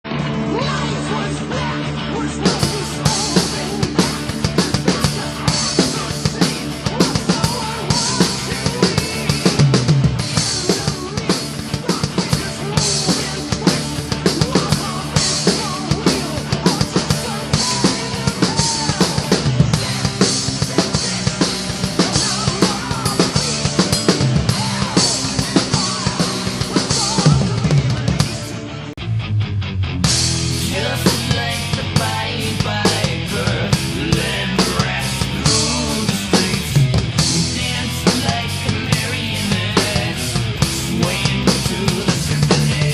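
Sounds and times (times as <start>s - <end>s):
heavy metal backing track: 0.0s - 42.9s
drum kit playing: 0.6s - 42.9s.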